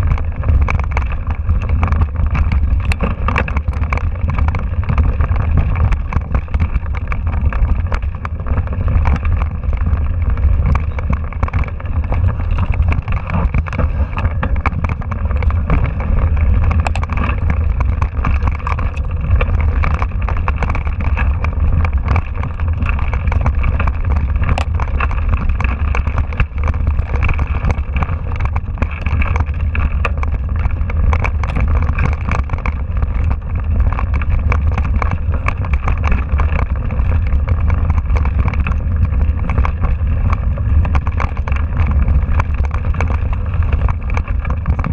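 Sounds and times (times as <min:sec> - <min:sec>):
bike rattling and clicking: 0:00.0 - 0:44.9
wind rumble on microphone: 0:00.0 - 0:44.9.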